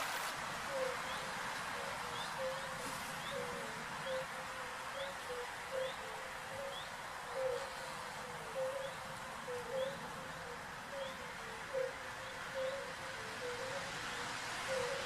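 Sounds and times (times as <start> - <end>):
steady hiss: 0.0 - 15.0
bird hooting: 0.7 - 13.9, 14.7 - 15.0.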